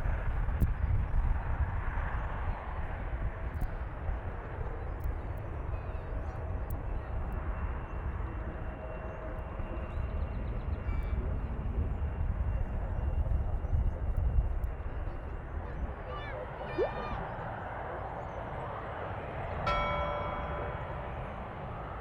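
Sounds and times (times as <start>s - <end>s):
jet airliner engine: 0.0s - 22.0s.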